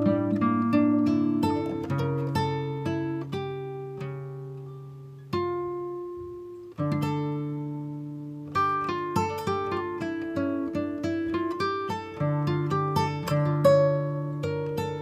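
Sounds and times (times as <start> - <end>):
slow acoustic guitar: 0.0 - 15.0.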